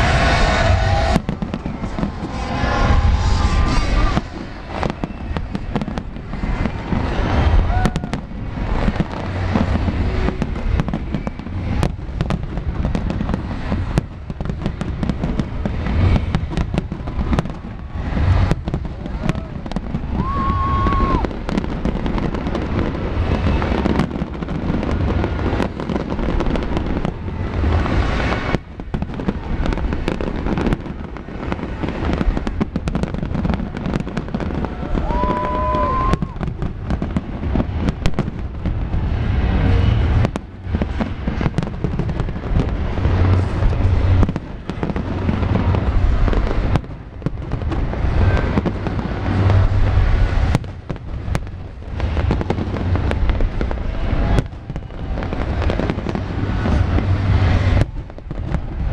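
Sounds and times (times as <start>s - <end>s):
firework whistle: 0.0s - 46.8s, 51.3s - 58.0s
fireworks bangs and crackling: 0.0s - 58.9s.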